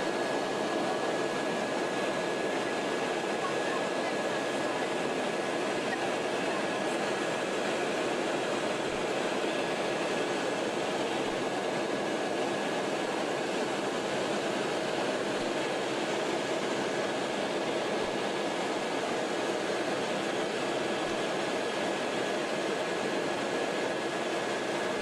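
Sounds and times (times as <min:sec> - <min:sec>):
helicopter rotor and engine noise: 0:00.0 - 0:25.0.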